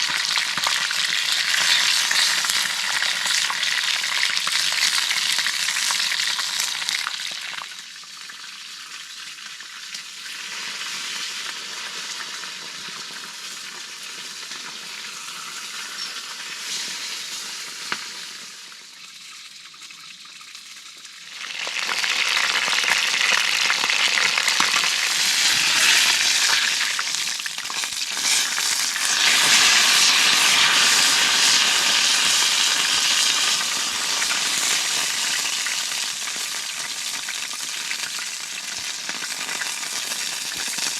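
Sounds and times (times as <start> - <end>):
chicken frying in hot oil: 0.0 - 40.9.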